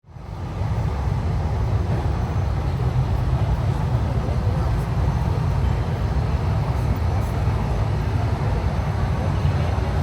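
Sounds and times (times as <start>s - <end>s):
terminal hall rumble and hiss: 0.0s - 10.0s
faint murmur of voices: 0.2s - 10.0s.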